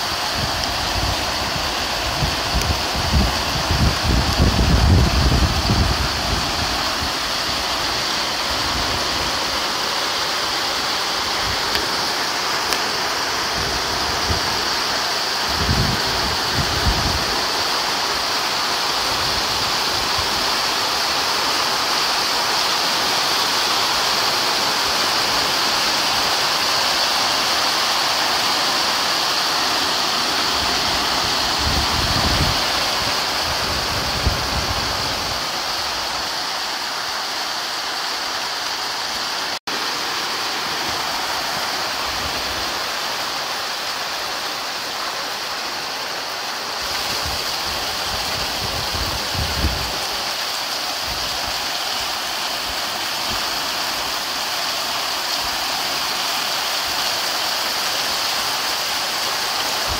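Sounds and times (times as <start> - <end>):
heavy rain on pavement: 0.0 - 59.9.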